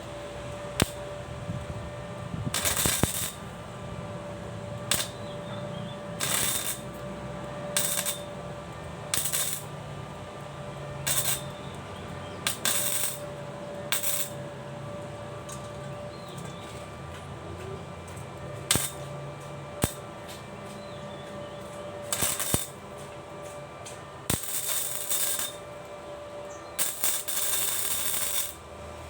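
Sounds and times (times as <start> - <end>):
arc welding crackle: 0.0 - 29.0
steady hum: 0.0 - 29.0.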